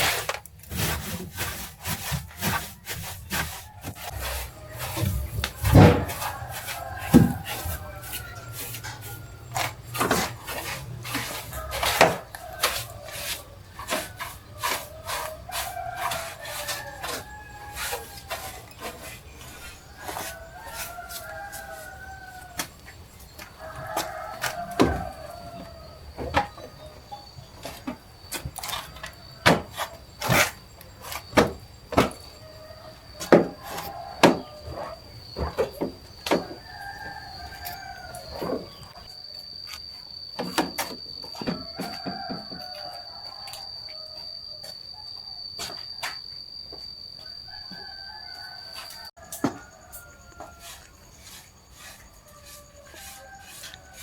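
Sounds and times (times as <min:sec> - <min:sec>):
rubbing and faint squeaks: 0:00.0 - 0:43.6, 0:47.2 - 0:54.0.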